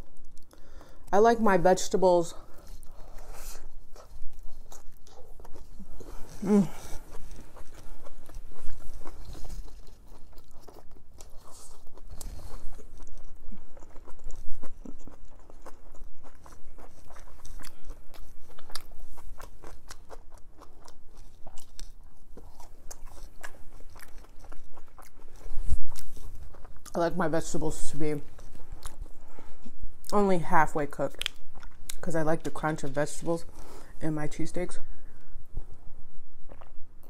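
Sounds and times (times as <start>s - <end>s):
person chewing crunchy food: 2.4s - 30.2s, 30.9s - 33.9s, 35.2s - 37.0s.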